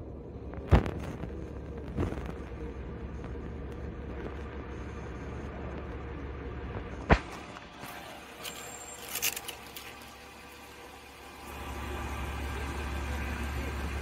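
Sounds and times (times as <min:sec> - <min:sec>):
vehicle engine idling: 0:01.4 - 0:14.0.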